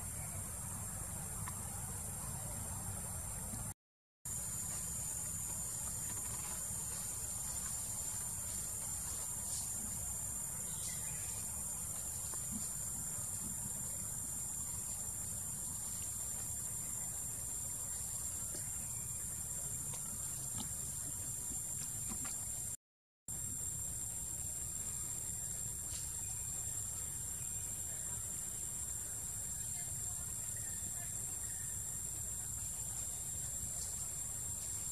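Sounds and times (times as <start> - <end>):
insects droning: 4.3 - 34.9.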